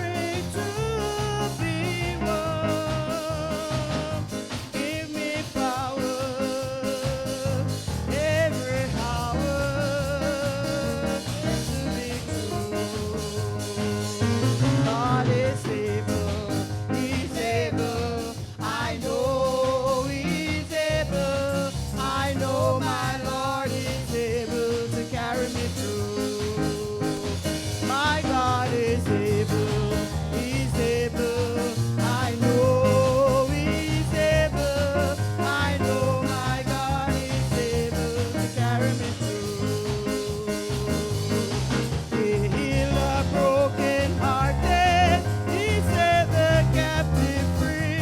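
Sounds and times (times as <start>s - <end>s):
band with drums and bass: 0.0s - 48.0s
person singing with vibrato: 0.0s - 48.0s.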